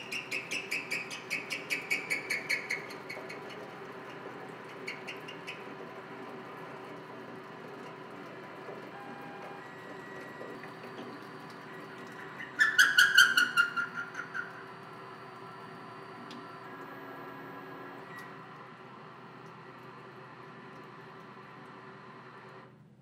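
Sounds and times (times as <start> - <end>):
machine hum: 0.0 - 22.8.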